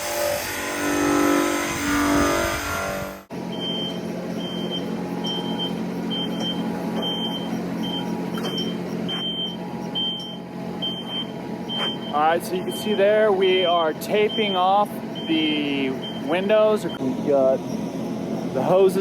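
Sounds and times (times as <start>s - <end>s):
engine running: 0.0s - 19.0s
vehicle backup alarm beeping: 3.3s - 19.0s.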